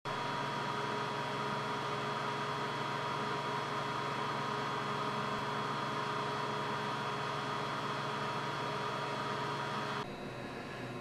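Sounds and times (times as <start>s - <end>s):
electrical hum: 0.1s - 11.0s.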